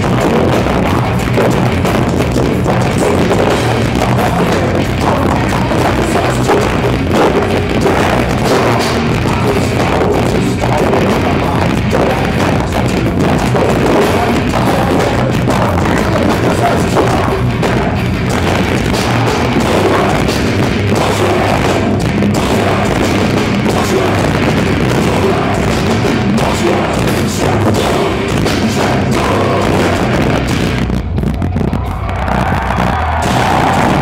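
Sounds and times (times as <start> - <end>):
bass guitar: 0.0 - 34.0
distorted electric guitar: 0.0 - 34.0
pounding drums: 0.0 - 34.0.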